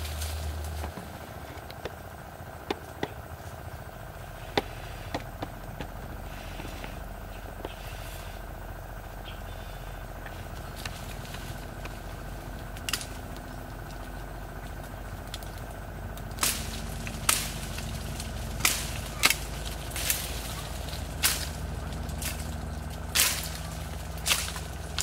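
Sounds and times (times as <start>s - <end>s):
branches snapping and cracking: 0.0s - 25.0s
steady hum: 0.0s - 25.0s.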